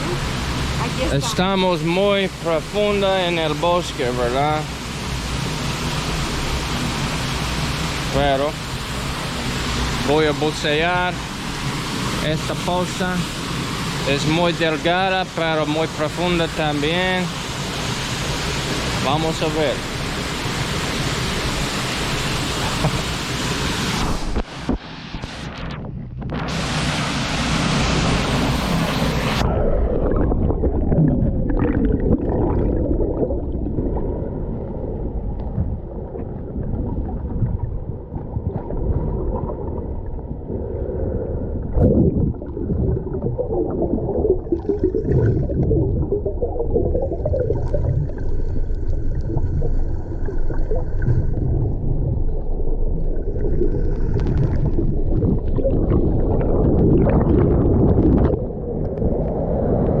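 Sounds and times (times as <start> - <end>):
muffled underwater water churning: 0.0 - 60.0.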